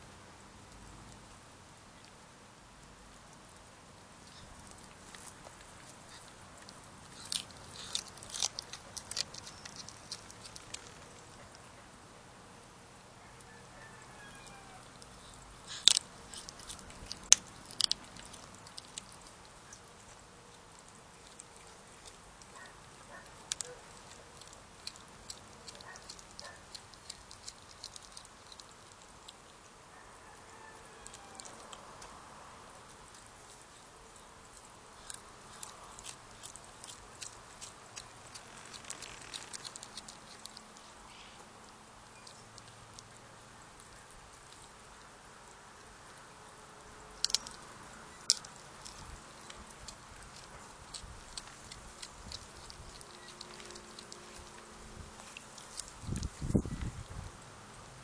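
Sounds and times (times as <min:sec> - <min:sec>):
cat chewing crunches: 0:02.8 - 0:12.1, 0:14.7 - 0:29.8, 0:31.0 - 0:46.4, 0:47.0 - 0:57.4.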